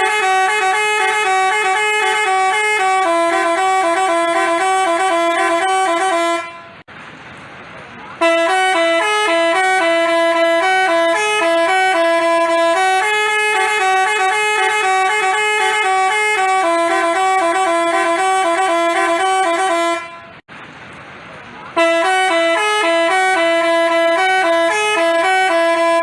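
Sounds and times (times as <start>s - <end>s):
bus horn playing a tune: 0.0s - 6.9s, 8.2s - 20.4s, 21.8s - 26.0s.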